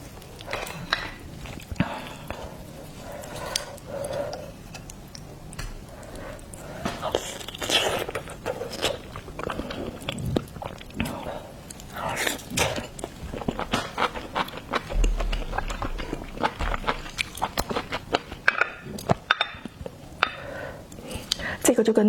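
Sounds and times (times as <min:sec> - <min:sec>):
person chewing seafood: 0:00.0 - 0:21.5.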